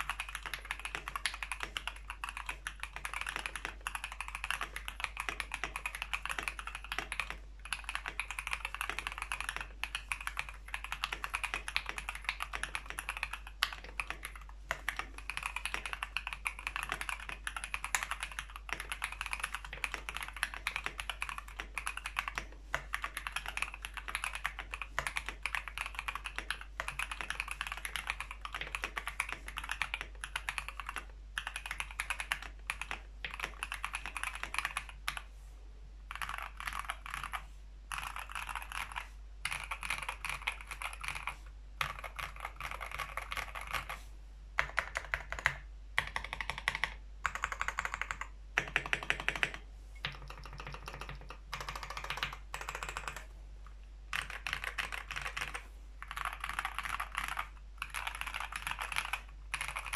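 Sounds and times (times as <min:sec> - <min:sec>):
mechanical keyboard typing: 0:00.0 - 0:35.3, 0:36.1 - 0:44.0, 0:44.6 - 0:53.3, 0:54.1 - 0:59.9.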